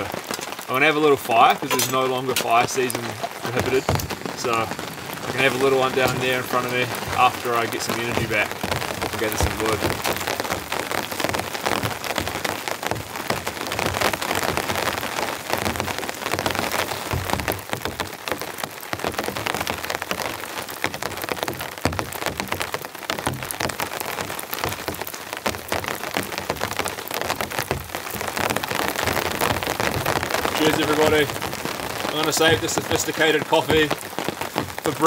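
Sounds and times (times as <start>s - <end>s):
rain pattering: 0.0s - 35.0s.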